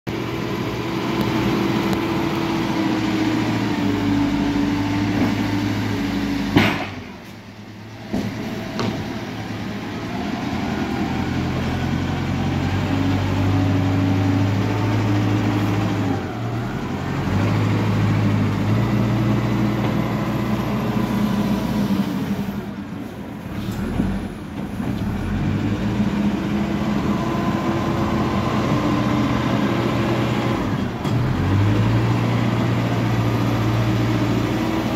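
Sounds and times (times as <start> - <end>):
diesel engine running under load: 0.1 - 34.9.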